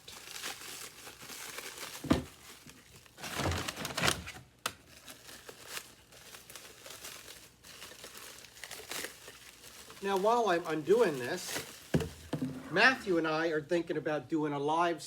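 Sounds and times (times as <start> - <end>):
packing wrap crinkling: 0.0 - 13.5.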